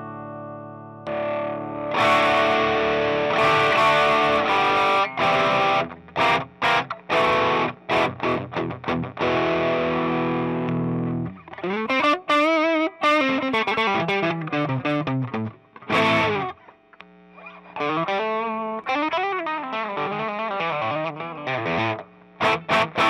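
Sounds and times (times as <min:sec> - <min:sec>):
overdriven electric guitar: 0:00.0 - 0:23.0.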